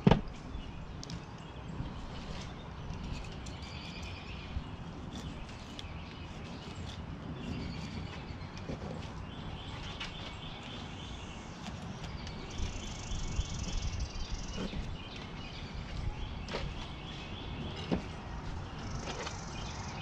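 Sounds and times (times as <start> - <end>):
birds chirping in trills: 0.3 - 20.0.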